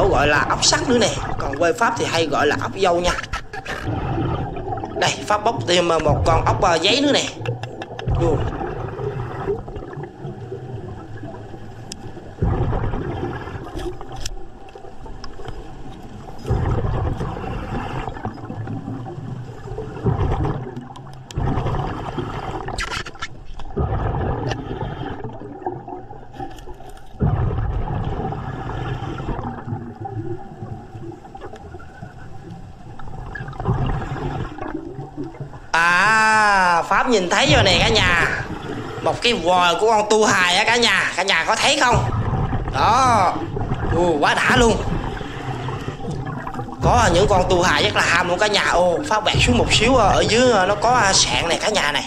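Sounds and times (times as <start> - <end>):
bubbles gurgling underwater: 0.0 - 52.0.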